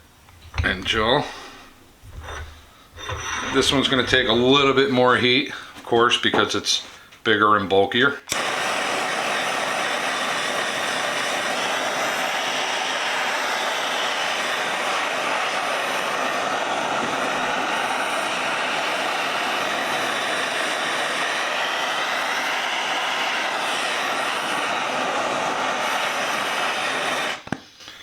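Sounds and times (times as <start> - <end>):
gas torch roaring: 0.0 - 5.6, 8.2 - 27.6.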